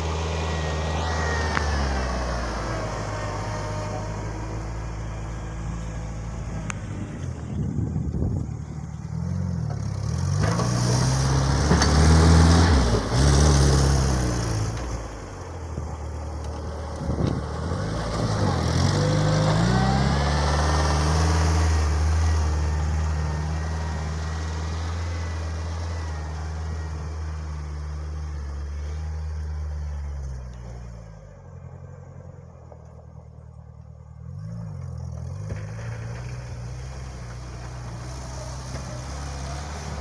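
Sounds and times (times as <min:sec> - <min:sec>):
small tractor engine revving: 0:00.0 - 0:30.9, 0:34.2 - 0:40.0.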